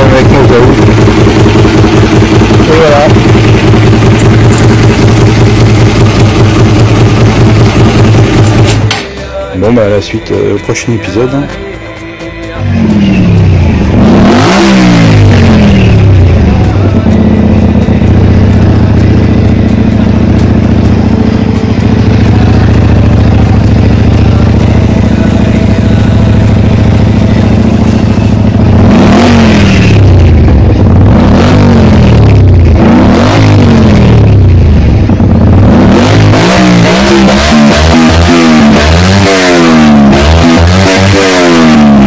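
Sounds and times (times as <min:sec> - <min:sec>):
motorcycle engine idling and revving: 0:00.0 - 0:11.4, 0:12.6 - 0:42.0.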